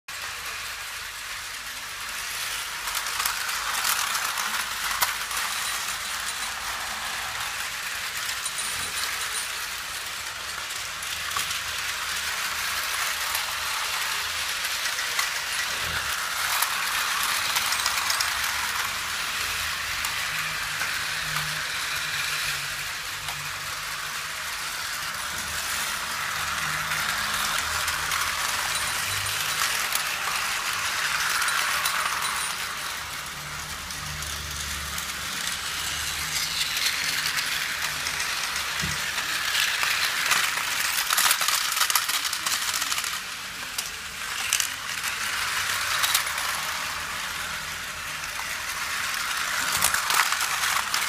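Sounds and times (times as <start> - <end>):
toy trains rattling on track: 0.1 - 51.0.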